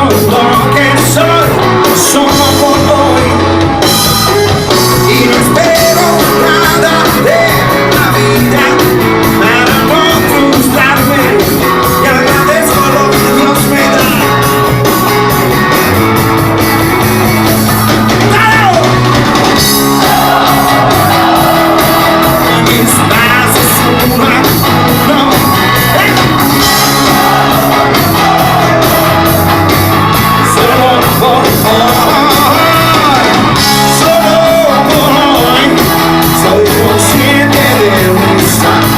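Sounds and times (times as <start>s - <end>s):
lead singer singing: 0.0s - 14.8s, 19.6s - 38.9s
rock band playing: 0.0s - 38.9s.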